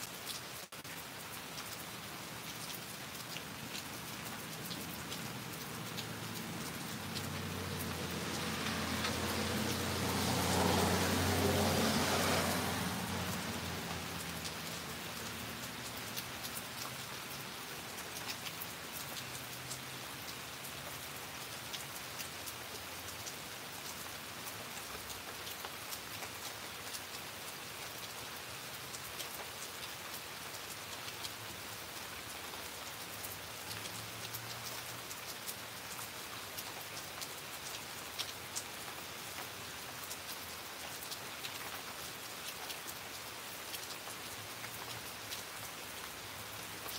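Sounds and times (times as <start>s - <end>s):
rain hiss: 0.0s - 46.9s
raindrops ticking close by: 0.0s - 46.9s.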